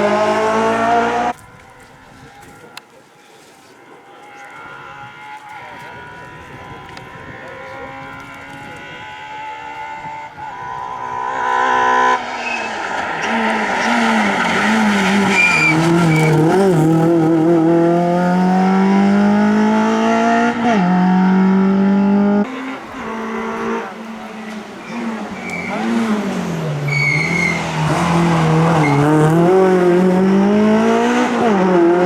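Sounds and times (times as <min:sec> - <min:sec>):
rally car engine accelerating: 0:00.0 - 0:01.4, 0:04.1 - 0:32.0.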